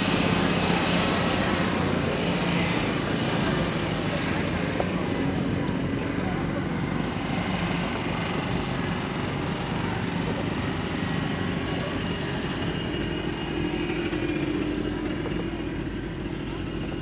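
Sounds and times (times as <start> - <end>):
steady outdoor rumble: 0.0 - 17.0
vehicle engine running: 0.0 - 17.0.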